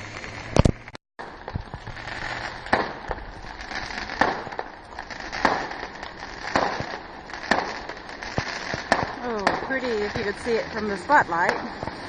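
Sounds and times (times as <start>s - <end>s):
fireworks banging and popping: 0.0s - 12.0s.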